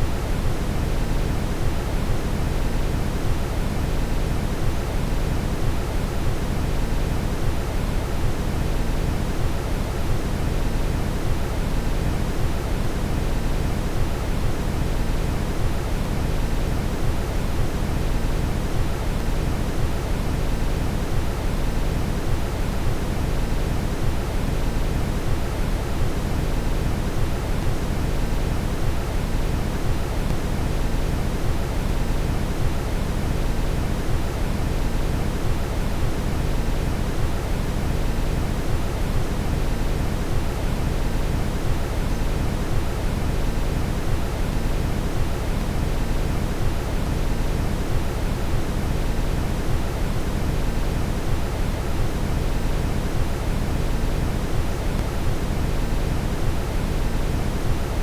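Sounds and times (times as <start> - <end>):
brown noise: 0.0 - 58.0.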